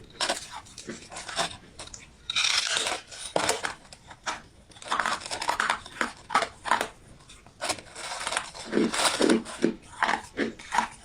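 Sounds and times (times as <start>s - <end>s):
ice being crunched and chewed: 0.0s - 11.0s.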